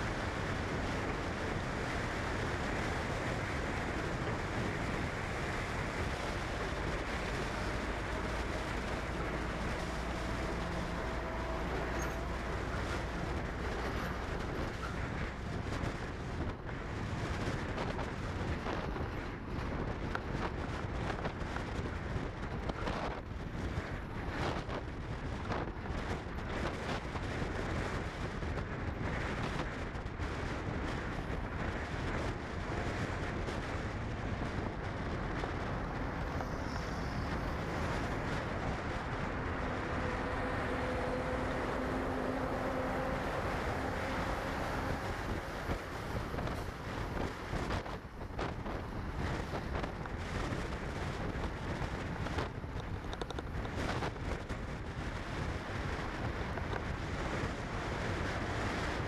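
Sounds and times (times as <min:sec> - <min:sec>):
vehicle noise: 0:00.0 - 0:59.0
wind buffeting microphone: 0:00.0 - 0:59.0.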